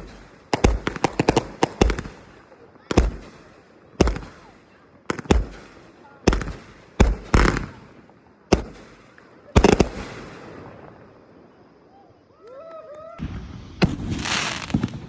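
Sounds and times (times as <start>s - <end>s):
fireworks bangs: 0.0s - 12.2s, 13.0s - 15.0s.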